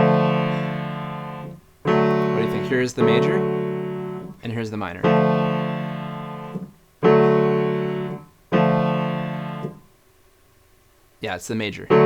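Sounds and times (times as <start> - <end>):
piano chords: 0.0 - 9.8.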